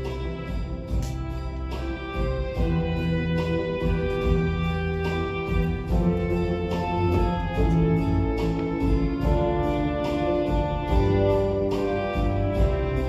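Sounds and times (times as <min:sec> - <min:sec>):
ocarina ensemble playing: 0:00.0 - 0:13.0.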